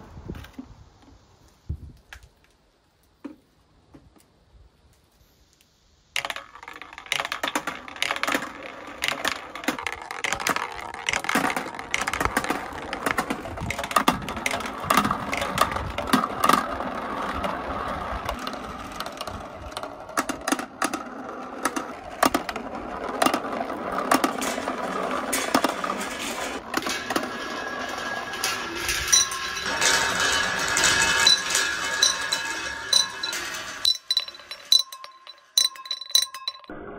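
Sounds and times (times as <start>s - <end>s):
clicks and knocks of balls: 6.2s - 36.7s
balls rolling through marble run: 6.2s - 36.8s.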